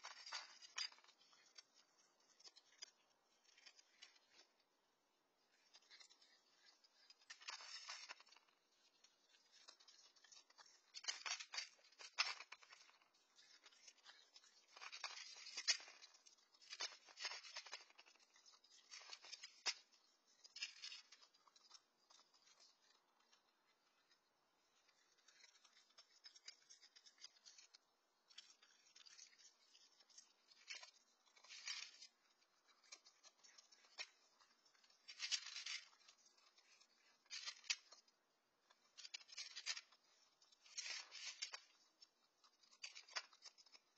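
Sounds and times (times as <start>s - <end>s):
animal crunching dry kibble: 0.0s - 4.8s, 5.5s - 43.9s.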